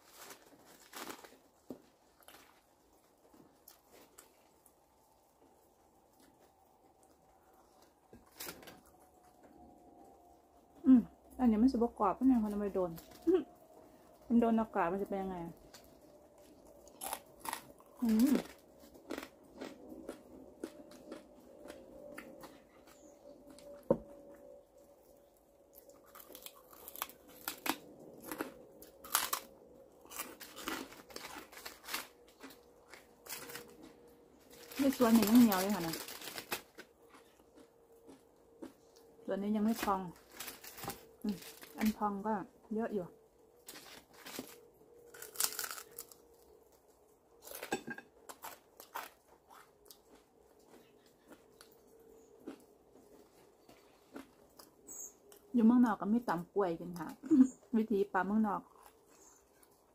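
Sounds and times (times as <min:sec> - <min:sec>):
crispy pork skin crunching: 0:00.0 - 0:10.3, 0:14.4 - 0:42.3, 0:43.4 - 0:55.7, 0:58.5 - 0:59.9
faint steady hum: 0:00.0 - 0:59.9.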